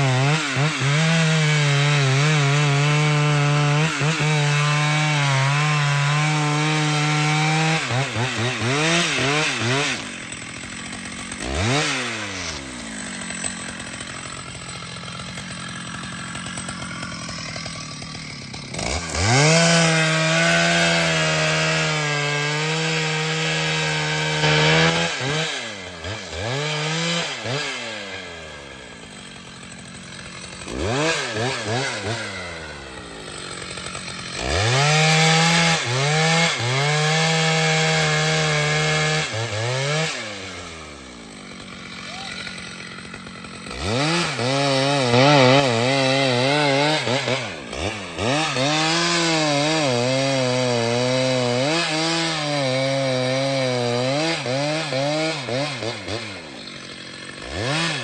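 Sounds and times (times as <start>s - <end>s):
chainsaw cutting timber: 0.0s - 58.0s.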